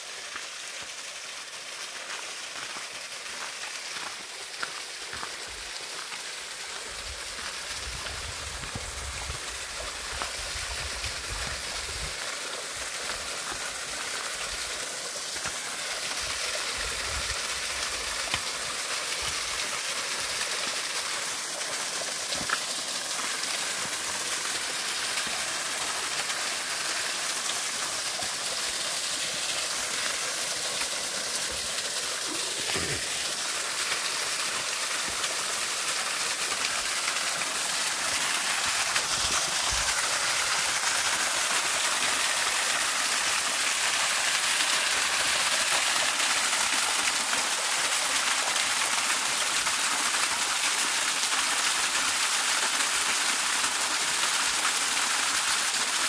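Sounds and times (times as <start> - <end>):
waterfall splashing into pool: 0.0 - 56.0.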